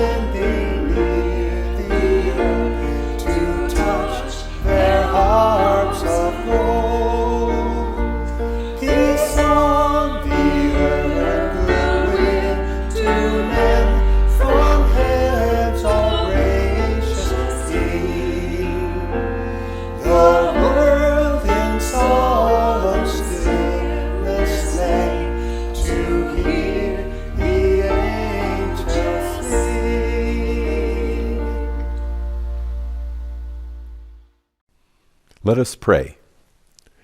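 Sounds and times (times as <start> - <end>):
voices singing worship song: 0.0 - 33.5
instrumental accompaniment with bass: 0.0 - 34.4.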